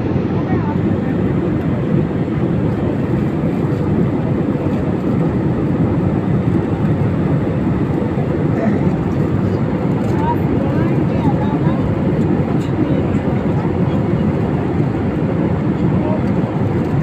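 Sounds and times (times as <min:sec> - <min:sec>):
airliner engine drone in cabin: 0:00.0 - 0:17.0.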